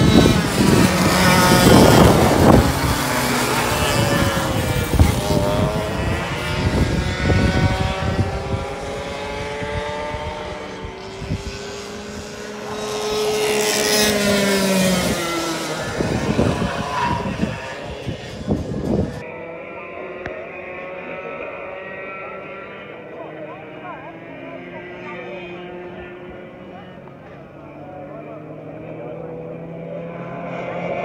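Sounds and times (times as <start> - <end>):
distant go-kart engines whining: 0.0 - 31.0
go-kart engine passing: 0.0 - 31.0.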